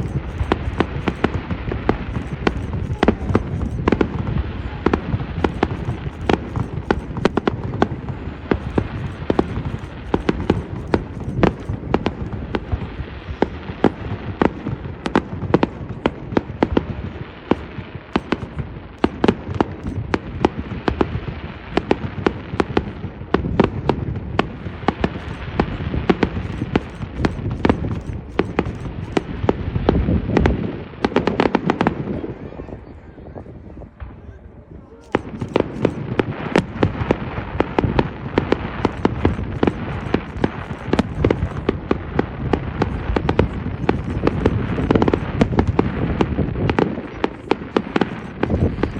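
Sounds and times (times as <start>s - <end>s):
steady low rumble: 0.0s - 22.1s, 23.3s - 30.6s, 35.2s - 48.9s
fireworks bangs and cracks: 0.0s - 32.3s, 35.1s - 48.9s.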